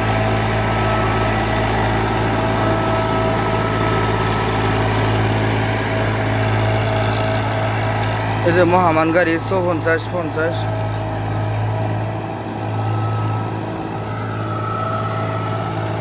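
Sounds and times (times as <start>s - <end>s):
tractor engine humming: 0.0s - 16.0s.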